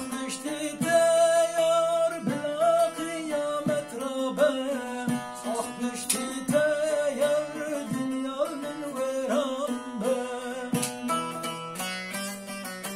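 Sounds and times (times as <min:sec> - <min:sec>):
man singing: 0:00.0 - 0:11.8
plucked lute strings: 0:00.0 - 0:12.9.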